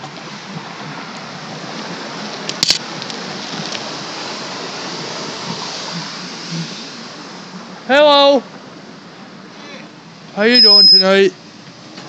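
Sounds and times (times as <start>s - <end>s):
bicycle tyres rolling on concrete: 0.0s - 12.0s.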